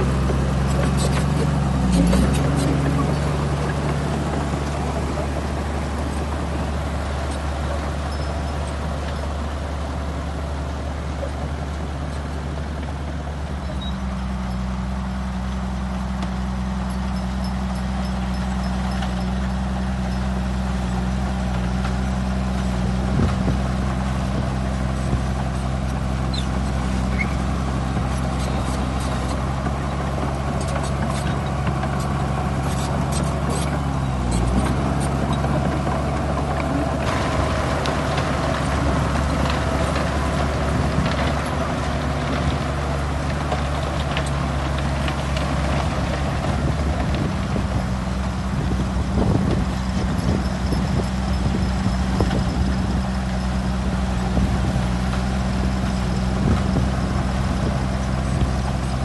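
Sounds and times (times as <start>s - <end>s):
bulldozer diesel engines droning: 0.0s - 59.0s.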